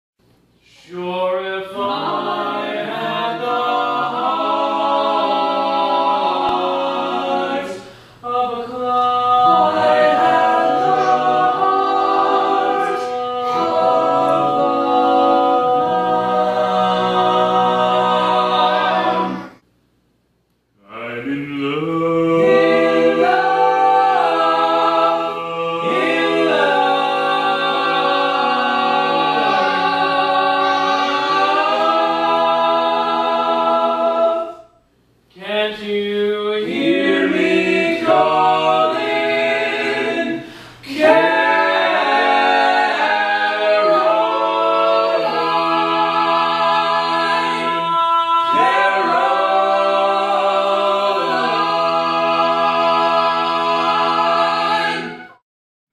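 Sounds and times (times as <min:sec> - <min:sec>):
male vocal quartet singing: 0:00.6 - 0:19.6, 0:20.8 - 0:34.7, 0:35.3 - 0:55.4.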